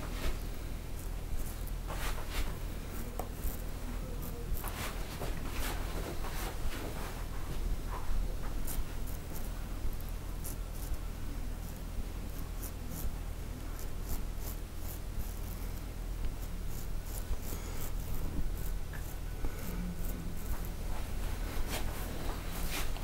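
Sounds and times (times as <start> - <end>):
low steady hum: 0.0 - 23.0
razor scraping stubble: 0.1 - 23.0.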